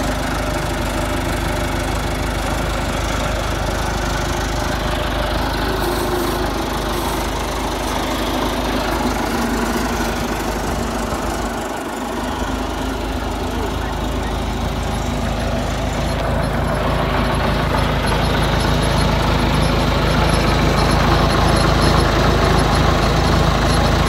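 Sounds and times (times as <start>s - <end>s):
tractor diesel engine running: 0.0s - 24.0s
tyres on gravel: 0.0s - 24.0s.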